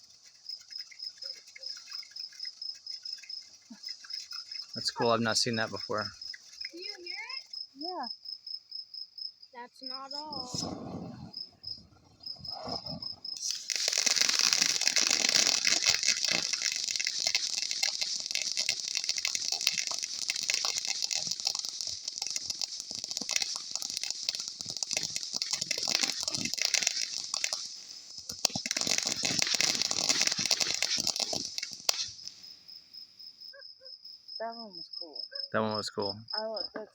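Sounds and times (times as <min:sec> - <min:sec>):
firework crackling: 0:00.0 - 0:07.9, 0:09.8 - 0:32.7.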